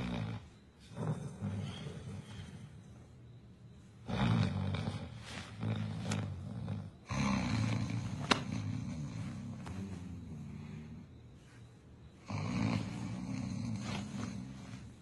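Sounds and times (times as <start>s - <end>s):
heavy rattling snores: 0.0s - 2.8s, 4.0s - 11.1s, 12.2s - 15.0s.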